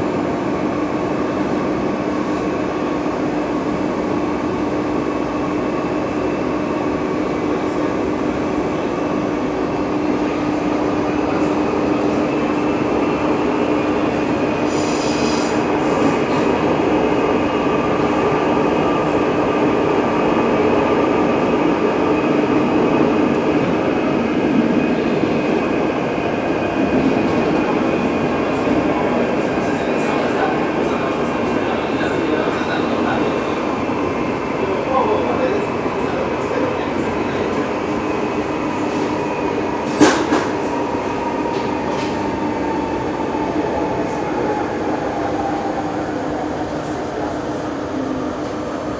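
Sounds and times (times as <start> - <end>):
electric train rumbling: 0.0 - 48.9.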